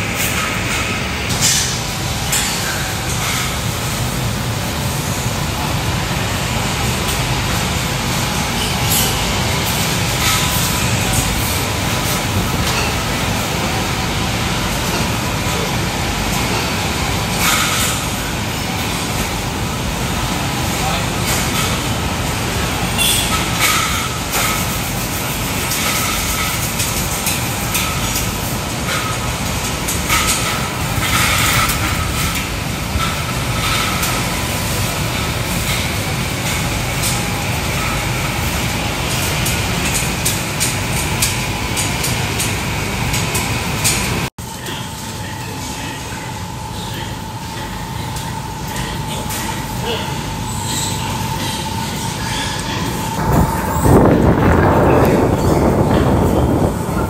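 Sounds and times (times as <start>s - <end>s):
machinery running: 0.0s - 57.0s
ventilation fans rushing: 0.0s - 57.0s.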